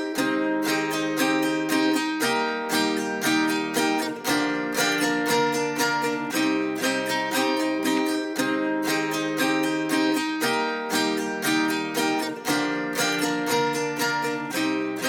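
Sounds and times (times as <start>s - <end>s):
trap beat with plucked guitar: 0.0s - 15.0s.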